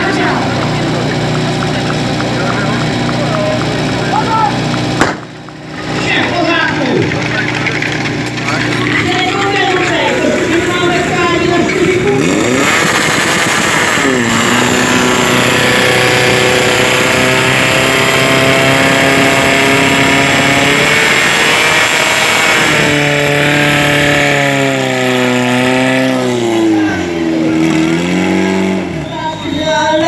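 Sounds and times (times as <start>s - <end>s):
pump engine running at high revs: 0.0s - 29.2s.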